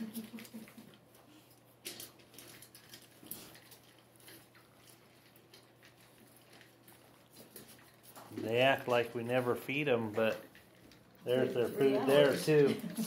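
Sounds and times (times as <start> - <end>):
puppies crunching dry kibble: 0.0 - 13.0.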